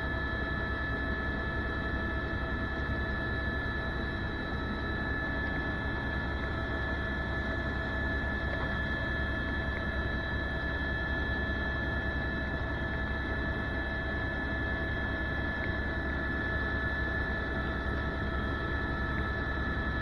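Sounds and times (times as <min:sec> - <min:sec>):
helicopter rotor rumble: 0:00.0 - 0:20.0.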